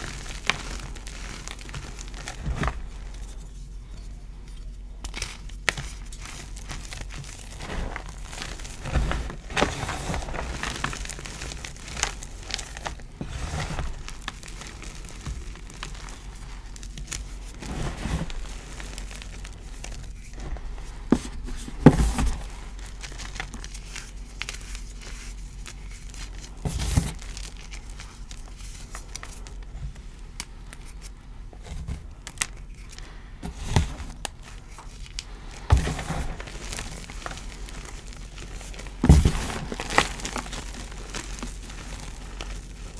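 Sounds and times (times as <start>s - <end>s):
hands crushing chalk lumps: 0.0s - 42.9s.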